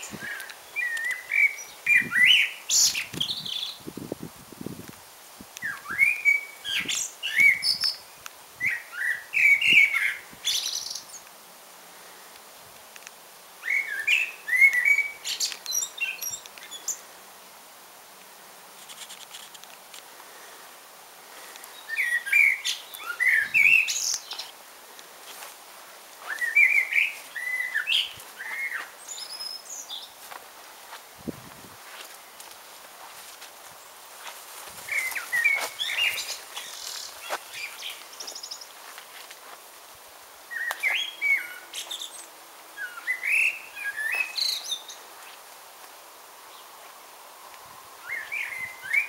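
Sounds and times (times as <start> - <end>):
songbird singing: 0.0 - 4.1, 5.5 - 12.4, 13.0 - 17.2, 21.3 - 39.7, 40.4 - 49.0.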